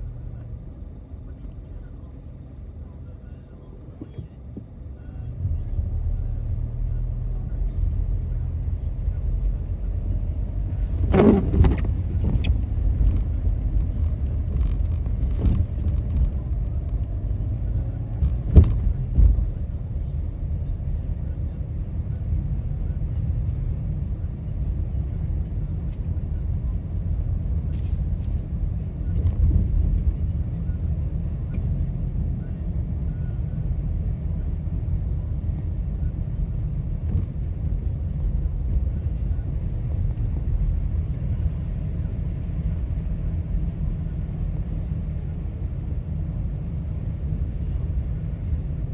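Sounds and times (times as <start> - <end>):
car driving rumble: 0.0 - 48.9.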